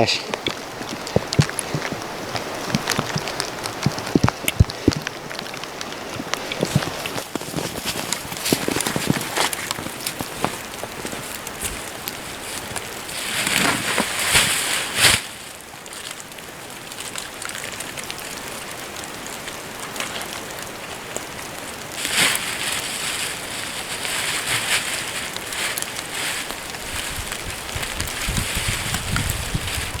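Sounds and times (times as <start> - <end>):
sleet and rain pattering: 0.0 - 30.0
rustling: 0.3 - 18.0, 19.8 - 30.0.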